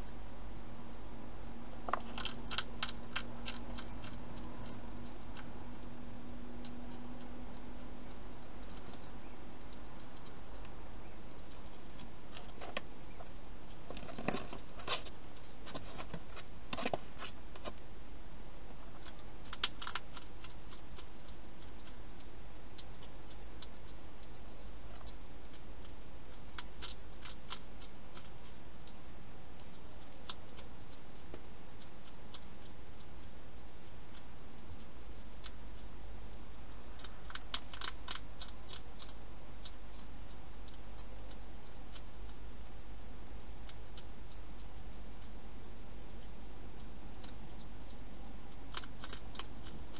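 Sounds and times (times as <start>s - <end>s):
steady low hum: 0.0s - 49.9s
hedgehog crunching food: 1.6s - 18.0s, 18.6s - 49.9s.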